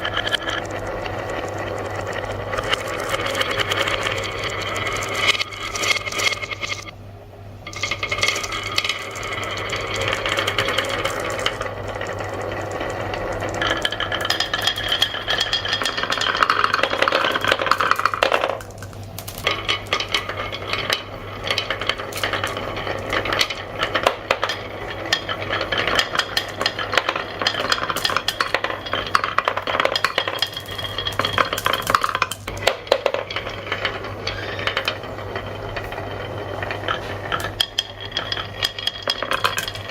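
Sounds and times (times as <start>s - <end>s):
marbles rolling and clattering: 0.0s - 7.0s, 7.7s - 39.9s.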